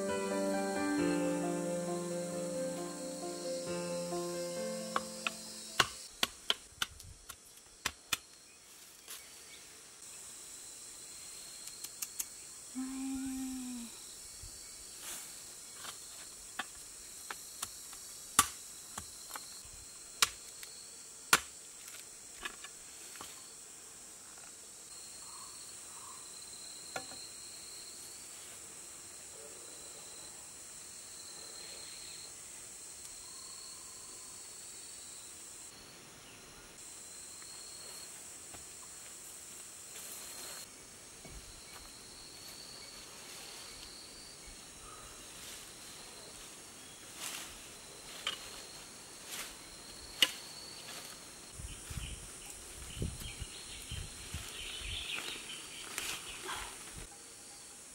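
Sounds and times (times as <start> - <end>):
insects chirping: 0.0 - 6.2, 7.5 - 57.9.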